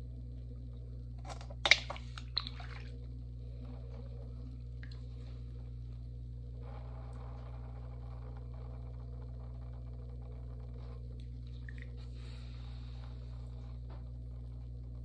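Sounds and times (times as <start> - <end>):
pottery wheel motor humming: 0.0 - 15.0.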